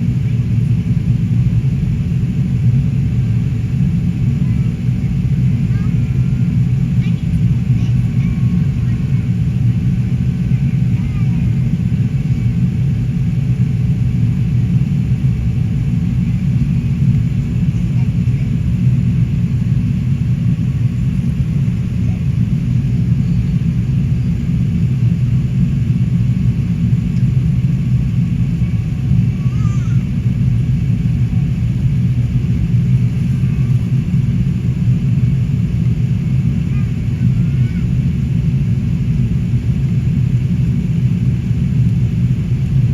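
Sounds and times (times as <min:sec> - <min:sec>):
jet engines rumbling: 0:00.0 - 0:42.9
airflow: 0:02.3 - 0:42.9.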